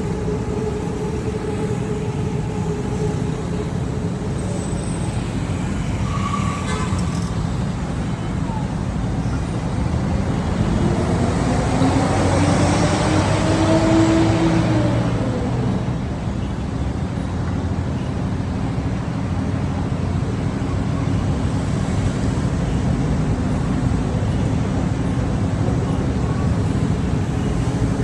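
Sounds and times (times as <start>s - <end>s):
city traffic rumble: 0.0s - 28.0s.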